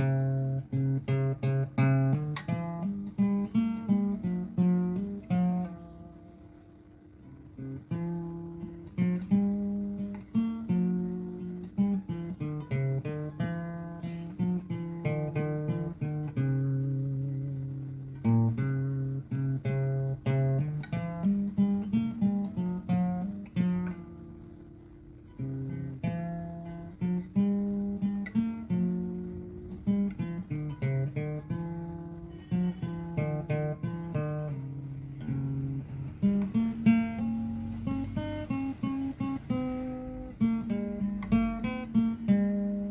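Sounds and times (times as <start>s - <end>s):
plucked acoustic guitar: 0.0s - 42.9s.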